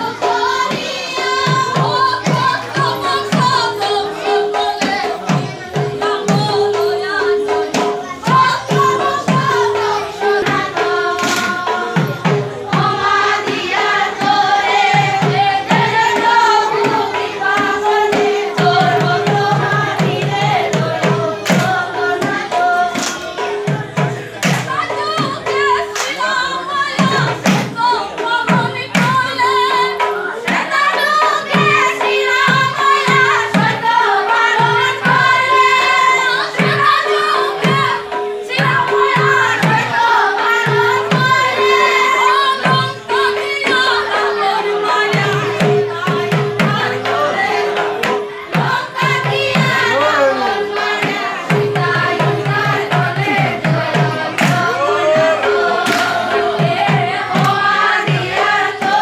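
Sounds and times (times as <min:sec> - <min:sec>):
barrel drum beaten: 0:00.0 - 0:59.0
group singing: 0:00.0 - 0:59.0.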